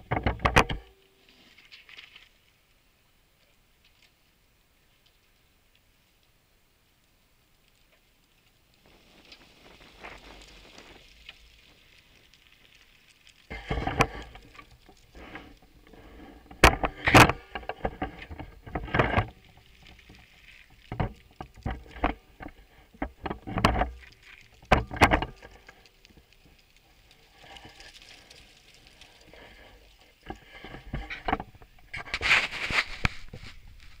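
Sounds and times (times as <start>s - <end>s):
rustling: 0.0s - 2.8s, 7.0s - 34.0s.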